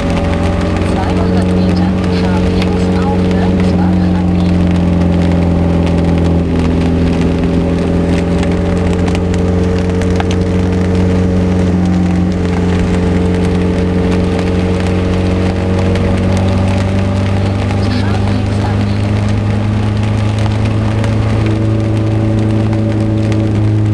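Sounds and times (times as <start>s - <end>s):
car engine low drone: 0.0s - 23.9s
heavy rain hitting car: 0.0s - 23.9s.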